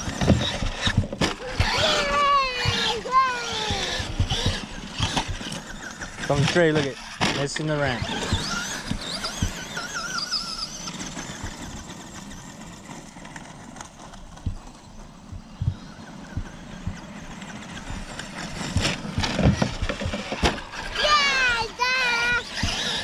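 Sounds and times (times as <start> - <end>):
electric motor whine: 0.0 - 23.0
tyres on gravel: 0.0 - 23.0.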